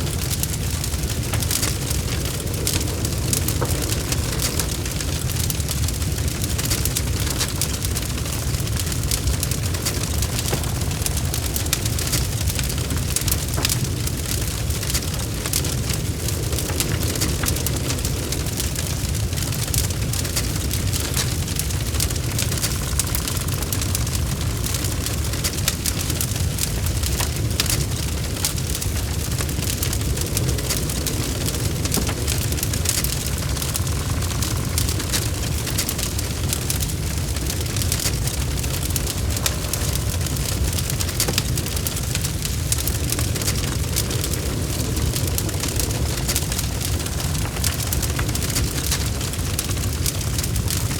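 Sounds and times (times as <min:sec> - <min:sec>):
fire rumbling: 0:00.0 - 0:50.9
logs crackling and popping: 0:00.0 - 0:50.9.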